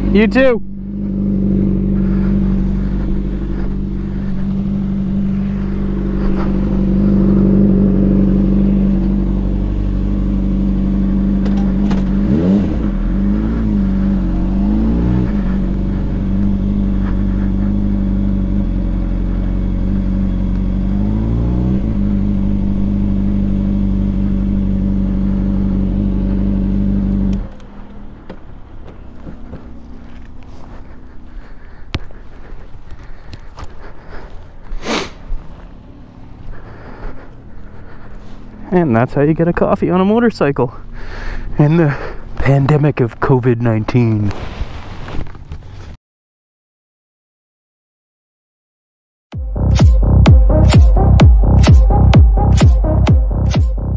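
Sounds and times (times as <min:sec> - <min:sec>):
motorcycle engine idling and revving: 0:00.0 - 0:46.0, 0:49.3 - 0:53.9.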